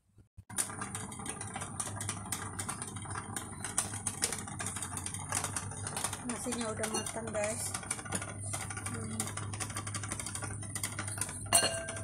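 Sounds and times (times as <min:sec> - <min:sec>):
risotto bubbling in a pot: 0:00.5 - 0:12.0.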